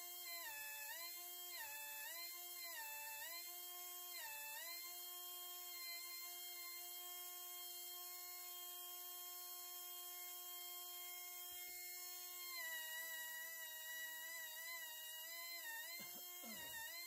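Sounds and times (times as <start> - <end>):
die grinder high-pitched whine: 0.0 - 17.0.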